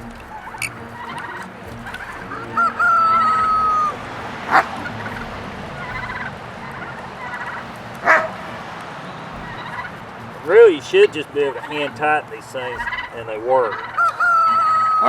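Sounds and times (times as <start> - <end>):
rooster crowing: 0.0 - 12.0, 12.6 - 15.0
geese honking: 0.0 - 15.0
poultry chattering: 0.0 - 15.0.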